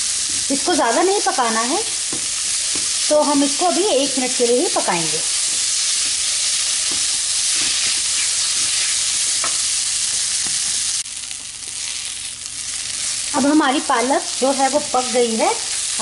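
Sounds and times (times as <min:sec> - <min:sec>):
vegetables sizzling in pan: 0:00.0 - 0:16.0.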